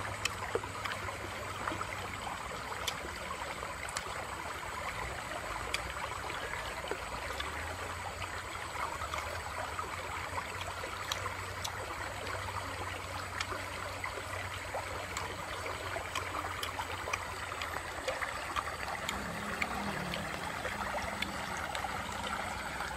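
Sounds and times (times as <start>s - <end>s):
stream babbling over stones: 0.0s - 22.9s.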